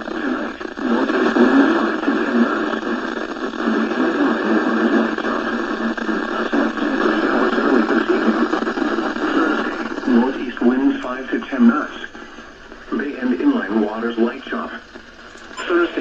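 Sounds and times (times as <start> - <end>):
automated voice reading forecast: 0.0 - 16.0
radio static hiss: 0.0 - 16.0.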